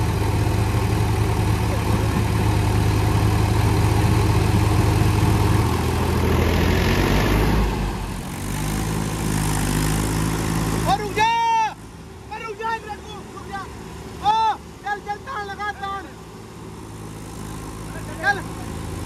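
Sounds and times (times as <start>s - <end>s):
diesel tractor engines running hard: 0.0s - 19.0s.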